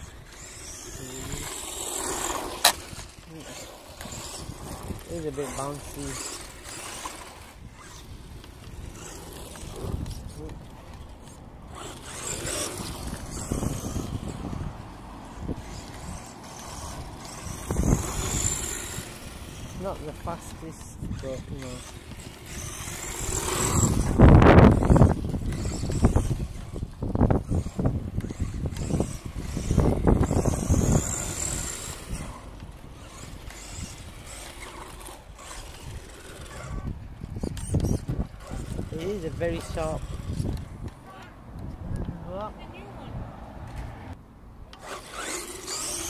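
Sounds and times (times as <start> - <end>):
electric motor whining: 0.0 - 42.1, 44.7 - 46.0
wind on microphone: 0.0 - 44.2
tyres rumbling on asphalt: 0.0 - 46.0.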